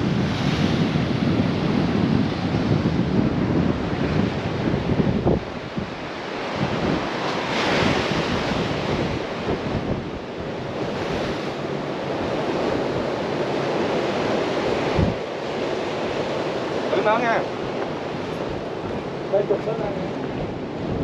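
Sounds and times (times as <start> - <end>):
surf washing against rocks: 0.0 - 21.0
wind blowing across microphone: 0.0 - 21.0.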